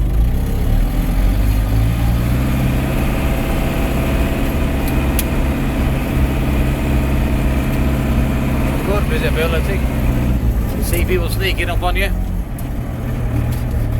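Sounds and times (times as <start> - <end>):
diesel tractor engine running: 0.0 - 13.9.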